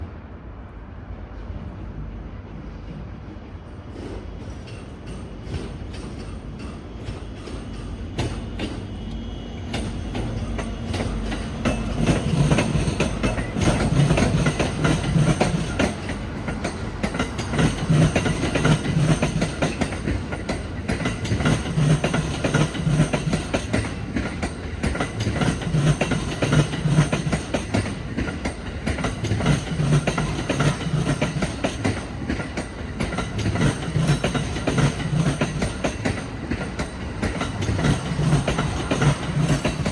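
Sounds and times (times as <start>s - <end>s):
train wheels clattering over joints: 4.0s - 39.9s.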